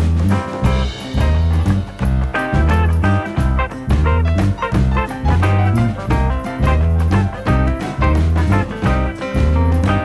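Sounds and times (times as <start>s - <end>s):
upbeat swing jazz music: 0.0s - 10.0s.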